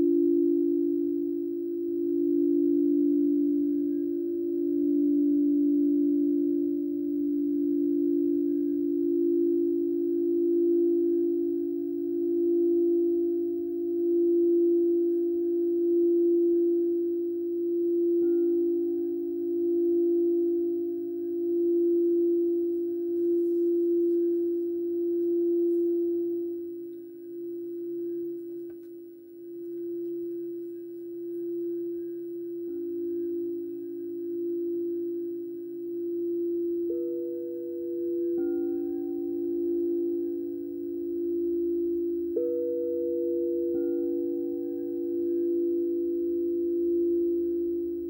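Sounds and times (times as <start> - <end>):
higher ringing tone: 0.0 - 48.0
singing bowl ringing tone: 0.0 - 48.0.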